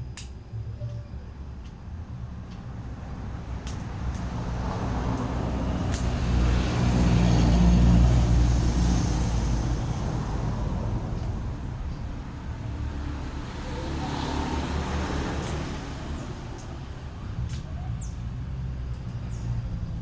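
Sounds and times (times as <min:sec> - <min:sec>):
vehicle engine passing by: 0:02.3 - 0:20.0.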